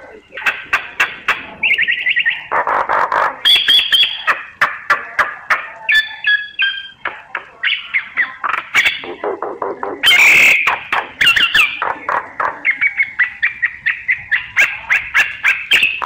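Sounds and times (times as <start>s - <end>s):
myna calling: 0.0s - 16.0s.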